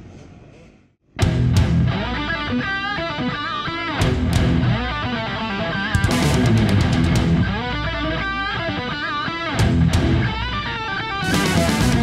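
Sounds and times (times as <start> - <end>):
hard rock music: 1.2 - 12.0.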